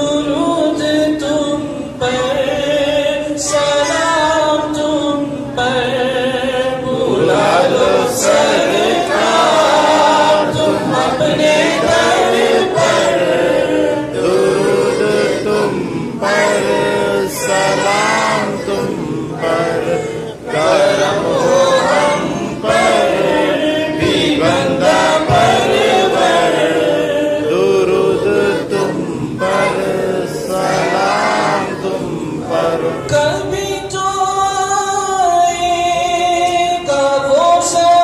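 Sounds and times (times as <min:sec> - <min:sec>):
men singing together: 0:00.0 - 0:38.0.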